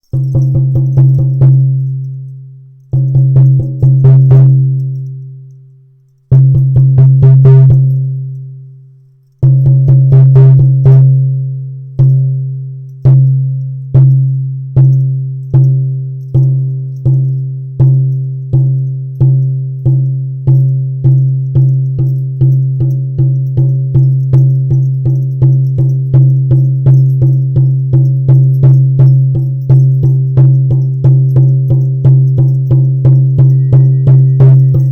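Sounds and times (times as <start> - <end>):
hand drum booming: 0.1 - 5.1, 6.3 - 8.4, 9.4 - 34.9.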